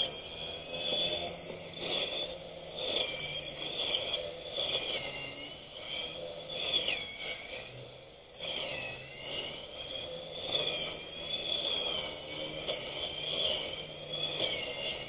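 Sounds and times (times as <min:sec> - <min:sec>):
electric grass cutter whining: 0:00.0 - 0:15.0.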